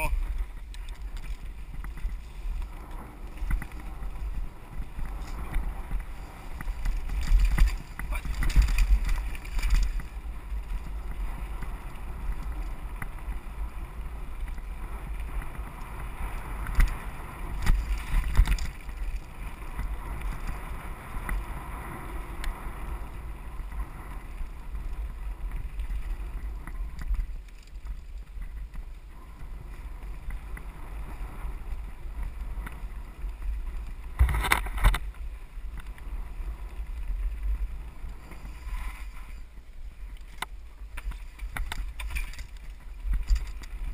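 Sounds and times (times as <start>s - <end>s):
bike jolts: 0.0s - 43.9s
bike rumbling over rough ground: 0.0s - 43.9s
wind buffeting microphone: 0.0s - 43.9s.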